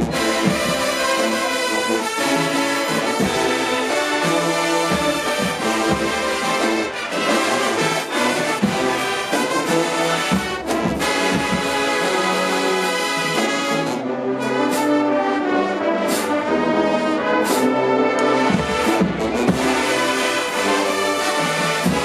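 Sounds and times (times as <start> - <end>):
brass band chords: 0.0 - 22.0.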